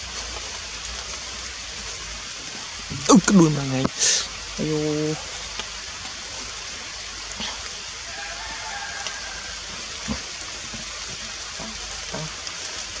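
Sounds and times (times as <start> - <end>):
rain on leaves: 0.0 - 13.0.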